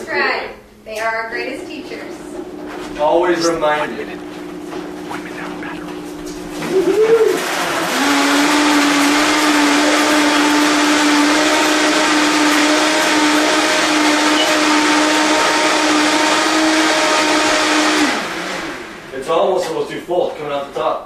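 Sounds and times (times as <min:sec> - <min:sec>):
blender running: 0:01.8 - 0:19.6.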